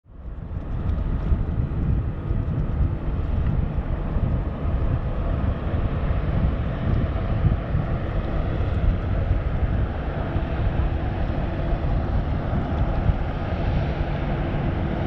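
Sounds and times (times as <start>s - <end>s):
hovercraft engine drone: 0.0s - 15.0s
wind buffeting microphone: 0.1s - 15.0s.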